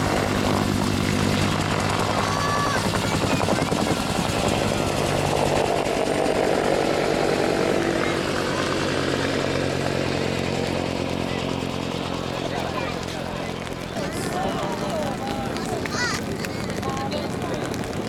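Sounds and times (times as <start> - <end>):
helicopter rotor beating: 0.0 - 18.0
turbine engine hum: 0.0 - 18.0.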